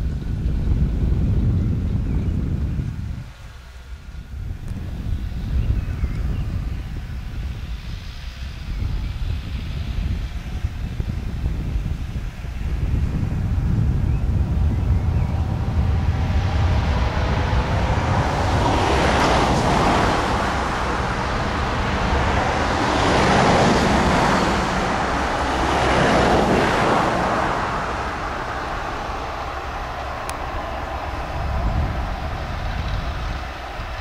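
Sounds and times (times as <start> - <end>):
tractor diesel engine running: 2.4 - 34.0
rushing noise: 2.7 - 34.0.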